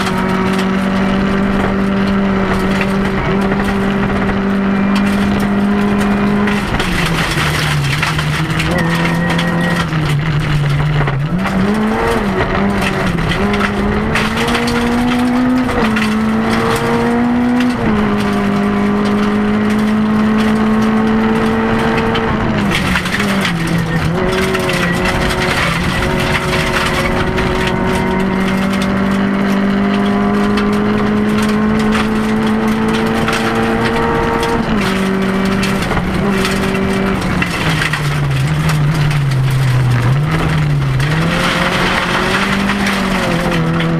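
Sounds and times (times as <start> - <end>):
rally car engine revving: 0.0 - 43.9
tyres on gravel: 0.0 - 43.9.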